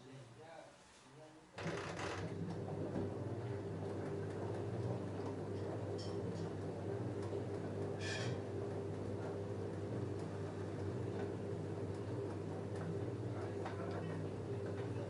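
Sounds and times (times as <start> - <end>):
washing machine humming: 1.6 - 15.0.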